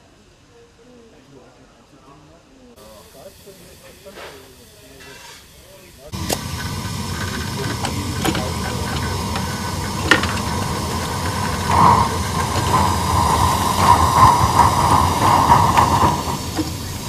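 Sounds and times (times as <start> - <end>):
model steam locomotive hissing: 2.8 - 17.0.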